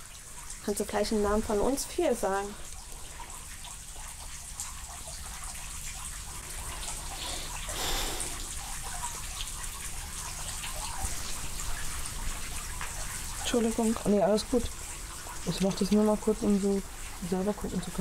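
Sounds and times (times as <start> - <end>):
running water trickling: 0.0 - 18.0
water drips: 0.0 - 18.0.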